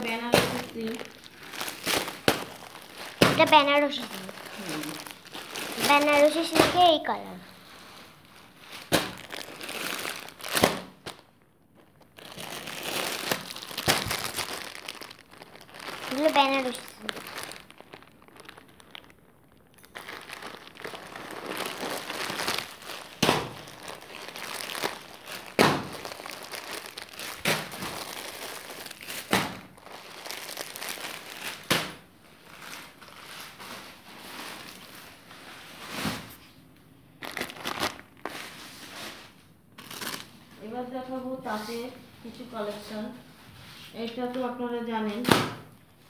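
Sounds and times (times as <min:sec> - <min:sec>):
plastic packets crinkling: 0:00.0 - 0:43.1.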